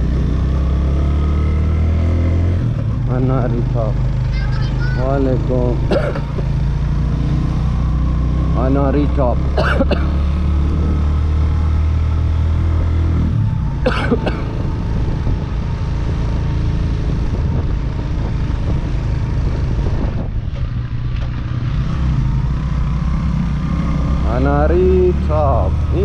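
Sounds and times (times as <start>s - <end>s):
motorcycle engine droning: 0.0s - 26.0s.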